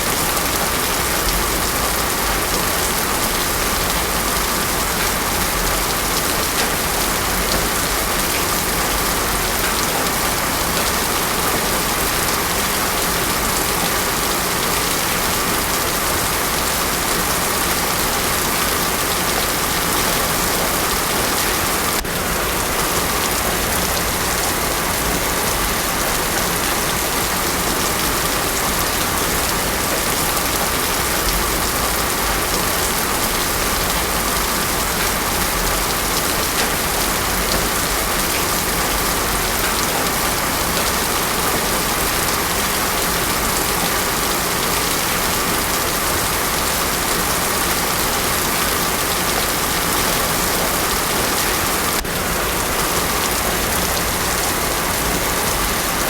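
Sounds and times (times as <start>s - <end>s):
heavy rain on a road: 0.0s - 56.0s.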